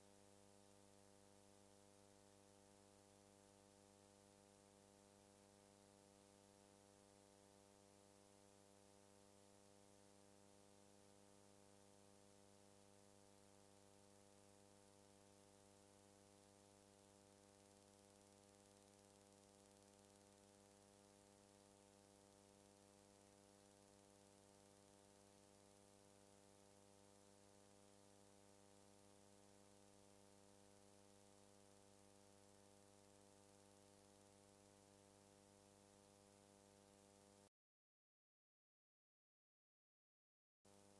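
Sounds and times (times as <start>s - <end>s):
faint steady hum and hiss: 0.0s - 37.5s, 40.7s - 40.9s.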